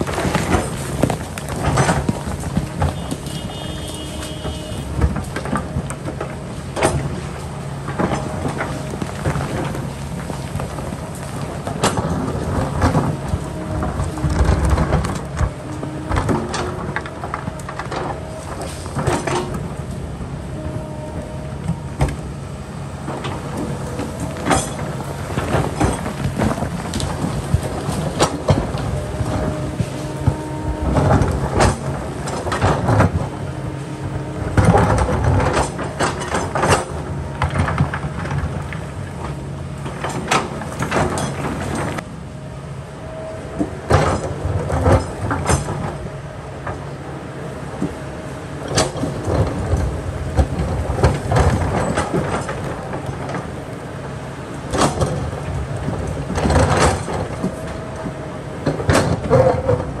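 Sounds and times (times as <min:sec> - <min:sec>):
excavator diesel engine running: 0:00.0 - 1:00.0.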